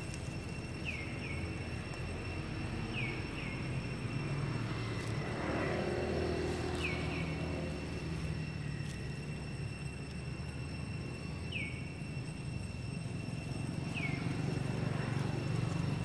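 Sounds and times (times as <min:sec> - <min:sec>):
distant engine rumble: 0:00.0 - 0:16.0
thin high whine: 0:00.0 - 0:16.0.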